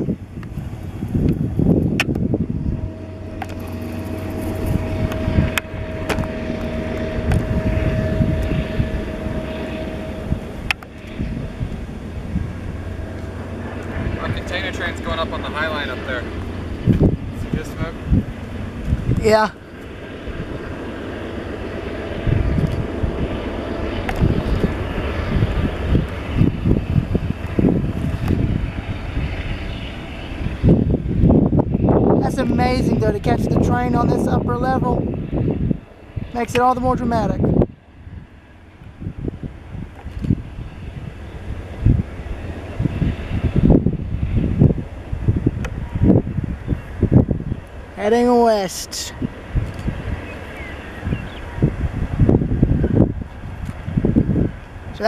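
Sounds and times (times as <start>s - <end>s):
diesel locomotive rumble: 0.0s - 55.0s
faint humming tones: 0.0s - 55.0s
high whine: 0.0s - 55.0s.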